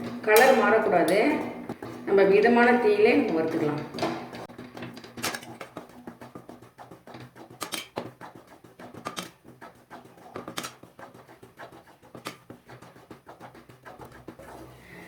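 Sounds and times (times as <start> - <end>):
spoon scraping a pan: 2.8 - 15.0.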